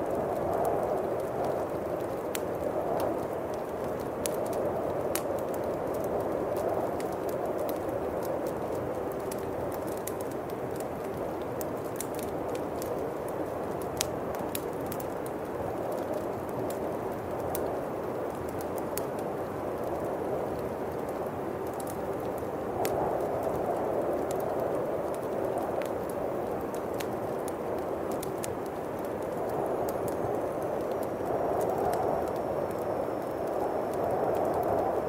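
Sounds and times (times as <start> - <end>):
bonfire crackling: 0.0 - 35.0
howling wind: 0.0 - 35.0.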